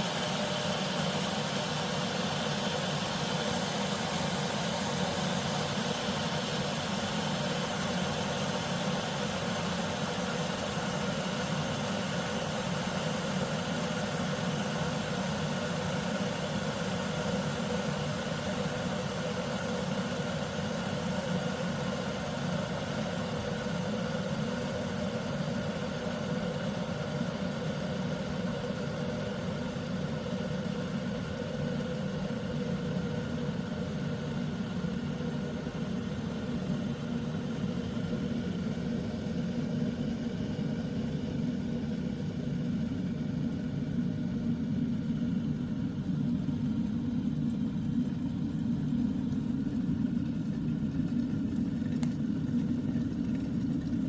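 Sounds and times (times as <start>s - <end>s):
electric kettle heating water: 0.0s - 54.0s.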